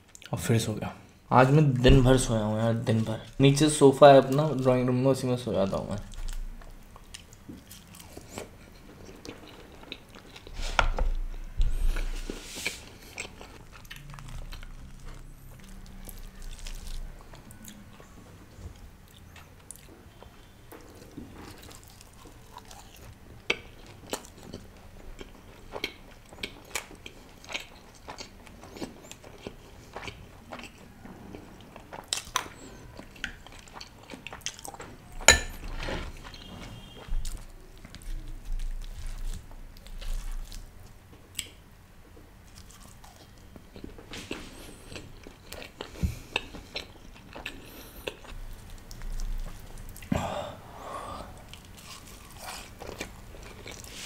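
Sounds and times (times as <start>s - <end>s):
person chewing food: 6.1s - 41.6s, 42.2s - 54.0s.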